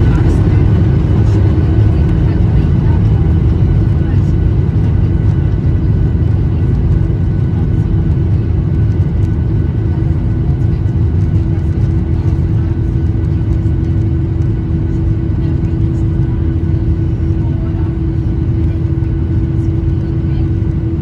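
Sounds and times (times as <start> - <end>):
constant engine hum: 0.0 - 21.0
jet engine rumble in cabin: 0.0 - 21.0.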